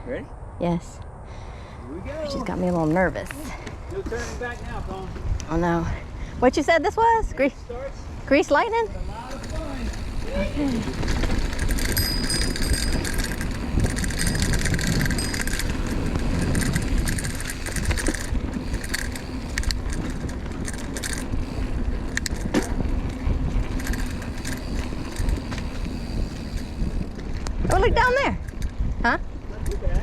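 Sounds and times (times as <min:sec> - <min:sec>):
wind and tyre noise: 0:00.0 - 0:30.0
bike chain rattling and clicking: 0:02.1 - 0:30.0.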